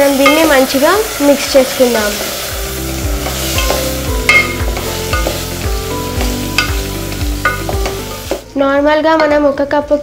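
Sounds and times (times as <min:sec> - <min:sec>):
light sizzle: 0:00.0 - 0:09.0.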